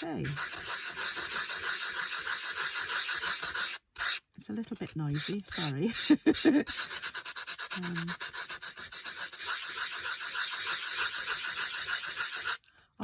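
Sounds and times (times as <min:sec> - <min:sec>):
abrasive block sanding card: 0:00.0 - 0:04.3, 0:05.1 - 0:12.6.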